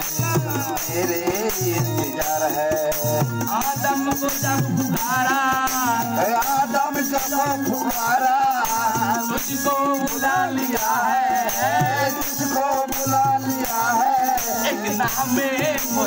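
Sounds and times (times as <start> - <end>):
electronic keyboard: 0.0 - 16.0
hand drum beat: 0.0 - 16.0
jingling tambourine: 0.0 - 16.0
man singing into microphone: 0.0 - 16.0.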